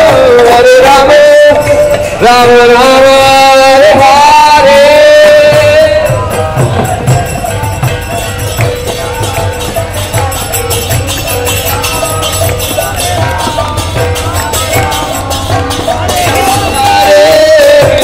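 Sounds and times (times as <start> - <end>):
hand cymbals jingling: 0.0 - 18.0
hand drum beat: 0.0 - 18.0
person singing wavering melody: 0.0 - 18.0.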